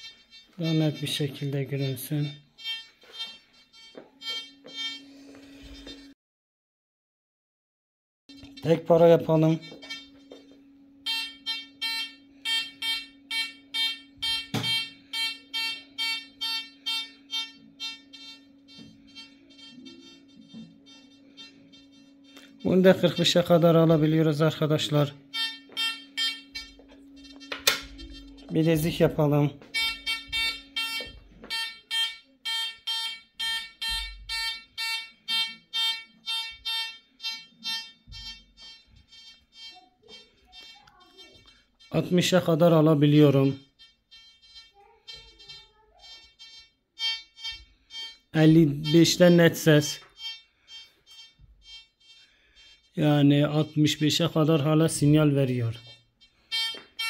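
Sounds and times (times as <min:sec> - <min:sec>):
metal detector beeps: 0:00.0 - 0:06.1, 0:08.3 - 0:57.0
steady low hum: 0:08.3 - 0:57.0.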